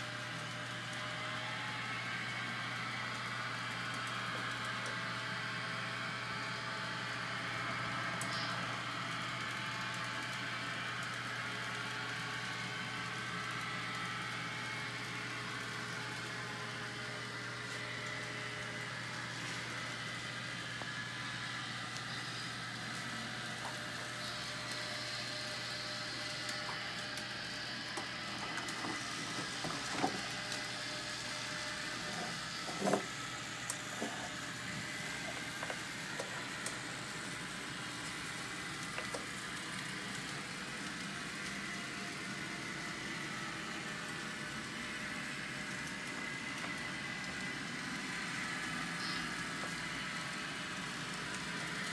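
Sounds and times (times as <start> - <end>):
model train electric whir: 0.0 - 51.9.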